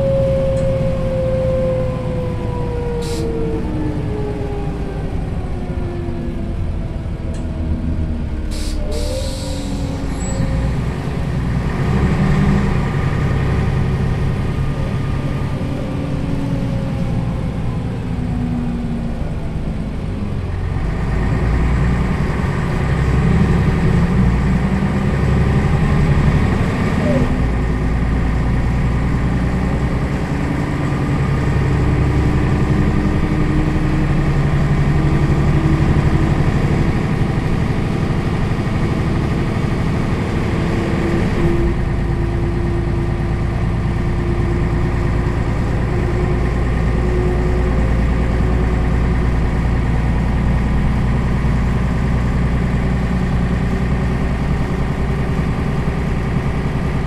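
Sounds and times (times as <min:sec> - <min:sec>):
diesel bus engine idling: 0:00.0 - 0:57.0.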